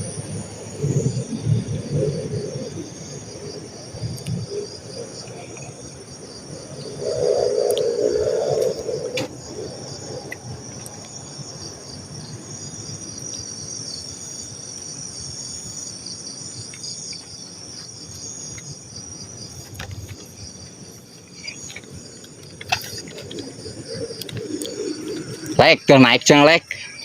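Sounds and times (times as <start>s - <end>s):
night insects chirping: 0.0s - 27.0s.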